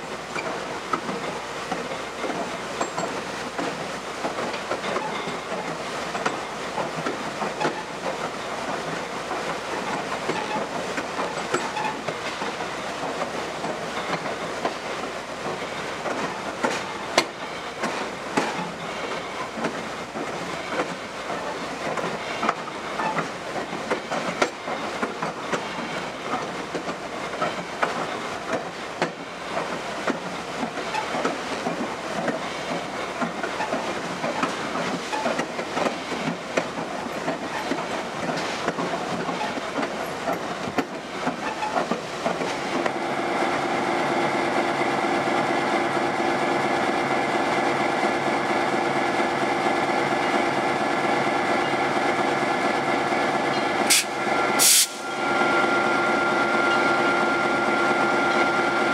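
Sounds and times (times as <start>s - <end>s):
train wheels rumbling on rails: 0.0s - 58.9s.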